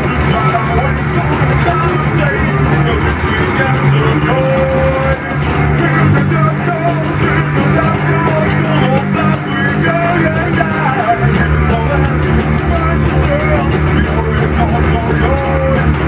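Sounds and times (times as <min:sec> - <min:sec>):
distorted electric guitar: 0:00.0 - 0:16.0
drums: 0:00.0 - 0:16.0
vocals sung or shouted: 0:00.0 - 0:16.0.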